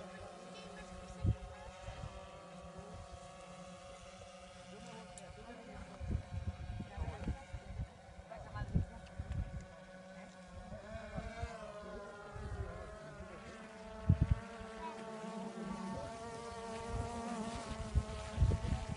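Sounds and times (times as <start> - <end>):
drone propellers buzzing: 0.0 - 18.9.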